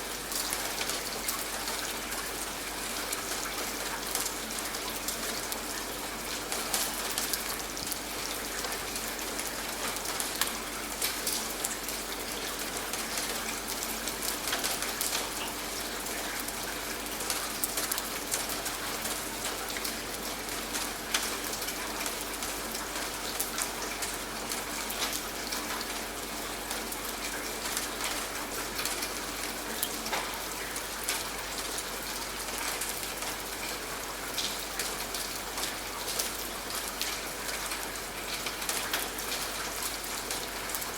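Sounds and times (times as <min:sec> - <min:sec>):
rain falling: 0:00.0 - 0:40.9
raindrops ticking on a surface: 0:00.0 - 0:40.9.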